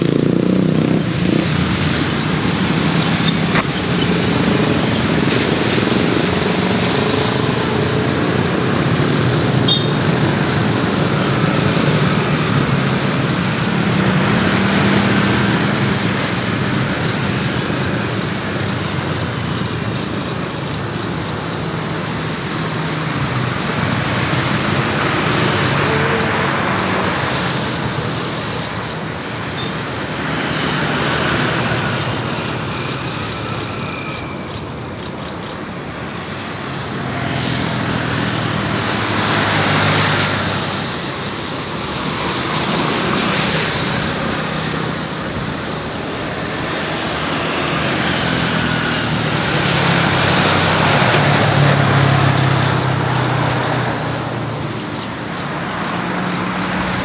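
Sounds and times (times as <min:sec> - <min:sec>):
vehicles passing: 0:00.0 - 0:57.0.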